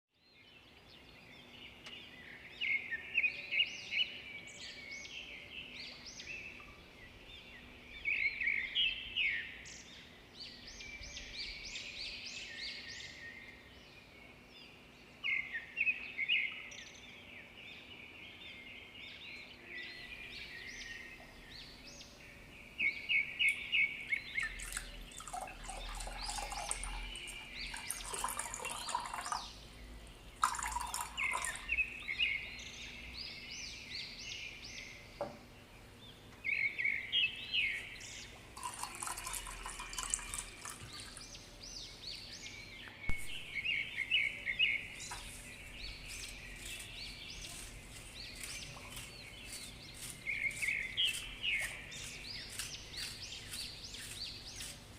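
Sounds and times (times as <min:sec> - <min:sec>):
small birds chirping: 0:00.2 - 0:54.9.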